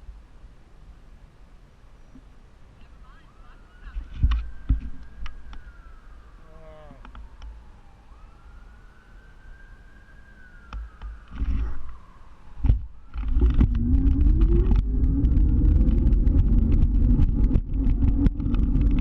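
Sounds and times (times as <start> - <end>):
wailing siren: 2.8 - 19.0.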